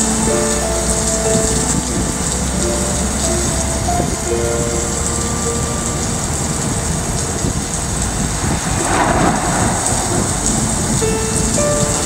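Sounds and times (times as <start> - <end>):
steady rain: 0.0 - 12.0
thunder rumbling: 1.0 - 12.0.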